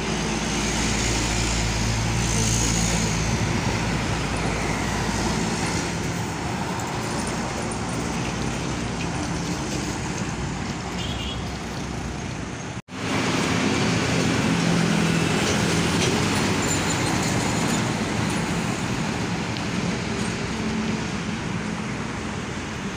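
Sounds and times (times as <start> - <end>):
truck diesel engines: 0.0 - 22.9.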